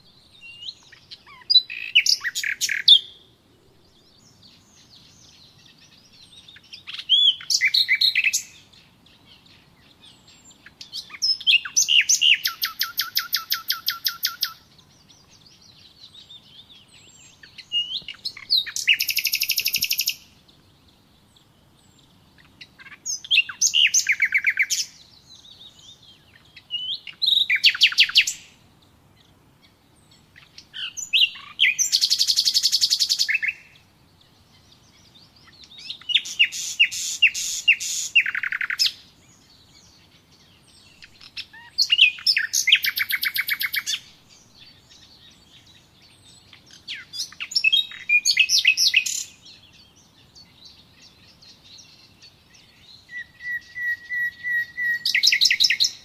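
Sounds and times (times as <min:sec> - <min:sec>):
bird singing trilled phrases: 0:00.0 - 0:56.0
soft bird chirps: 0:00.0 - 0:56.0.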